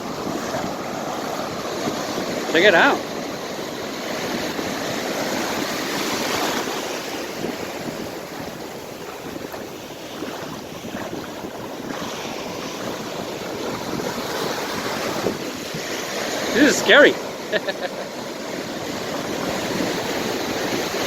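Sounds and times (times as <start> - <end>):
ocean surf washing on beach: 0.0 - 21.0
wind buffeting microphone: 0.0 - 21.0.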